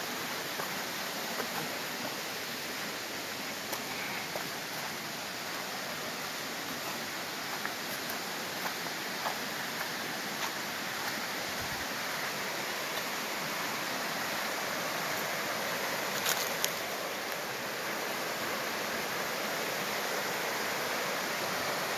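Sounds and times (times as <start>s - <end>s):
stream rushing over stones: 0.0s - 21.9s.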